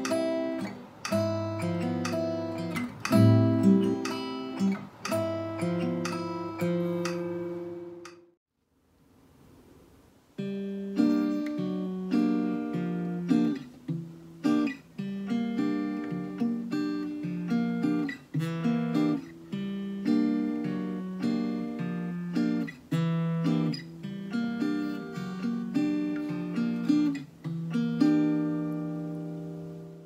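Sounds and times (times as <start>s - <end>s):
acoustic guitar latin pattern: 0.0s - 8.4s, 10.4s - 30.0s.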